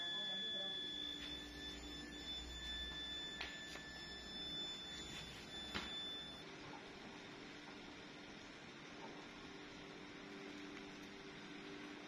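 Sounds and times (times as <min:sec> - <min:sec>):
furnace high-pitched whine: 0:00.0 - 0:12.0.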